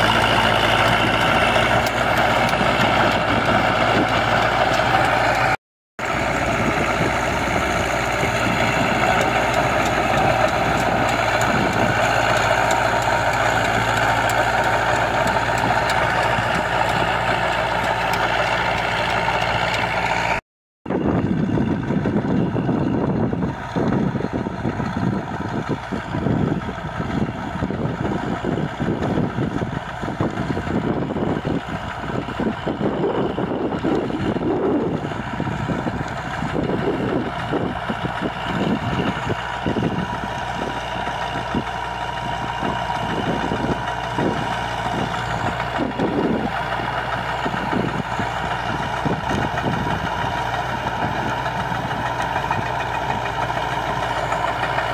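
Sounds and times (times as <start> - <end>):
rotavator churning soil: 0.0 - 20.4, 28.1 - 54.9
tractor diesel engine running: 0.0 - 54.9.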